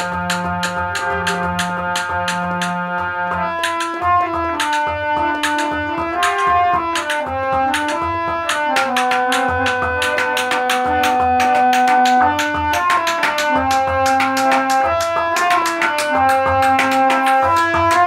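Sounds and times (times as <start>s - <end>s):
finger strikes on pot drum: 0.0s - 18.0s
harmonium melody: 0.0s - 18.0s.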